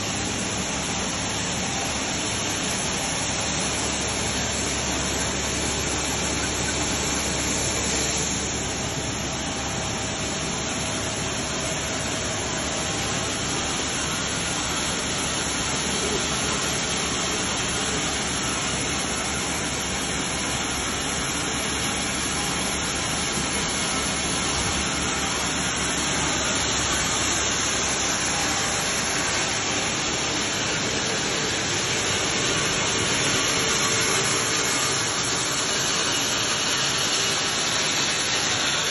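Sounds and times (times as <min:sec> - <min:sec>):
conveyor belt rushing hiss: 0:00.0 - 0:38.9.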